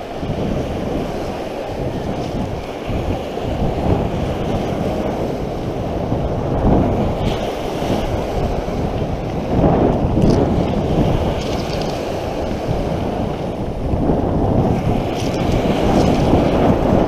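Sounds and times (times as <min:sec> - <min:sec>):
waves washing up shingle beach: 0:00.0 - 0:17.0
wind buffeting microphone: 0:00.0 - 0:17.0.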